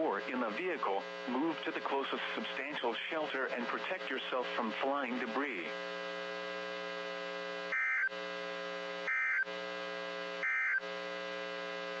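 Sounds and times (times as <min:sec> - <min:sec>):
steady electrical buzz: 0:00.0 - 0:12.0.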